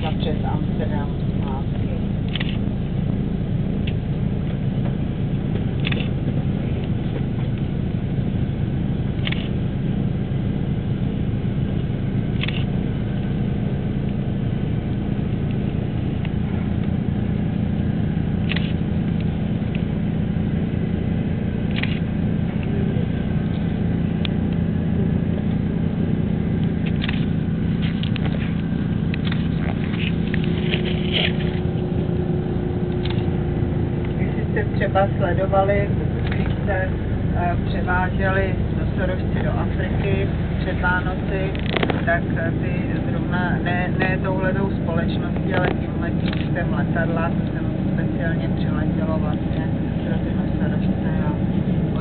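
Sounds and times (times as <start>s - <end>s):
engine and road rumble: 0.0s - 52.0s.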